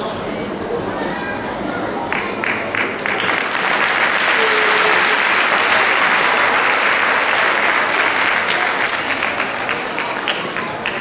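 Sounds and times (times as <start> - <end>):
large audience applauding: 2.1 - 11.0.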